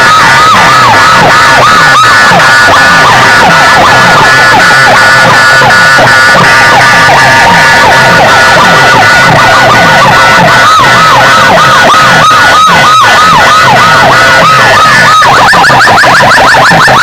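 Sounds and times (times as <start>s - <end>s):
electronic siren wailing: 0.0s - 17.0s.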